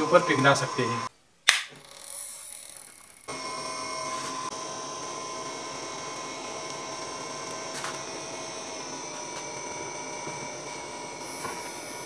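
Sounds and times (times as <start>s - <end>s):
fan whirring: 0.0s - 1.1s, 1.8s - 12.0s
thin motor whine: 0.0s - 1.1s, 1.8s - 12.0s.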